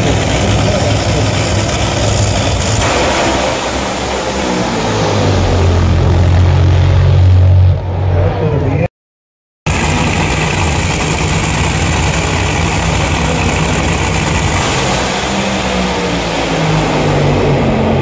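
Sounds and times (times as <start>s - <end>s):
supercharged car engines running loud: 0.0s - 8.9s, 9.7s - 18.0s.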